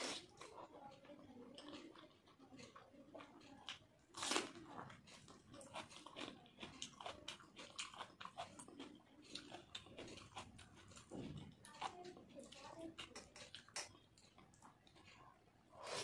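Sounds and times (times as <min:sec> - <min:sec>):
mouth clicks and smacks chewing: 0:00.0 - 0:16.0.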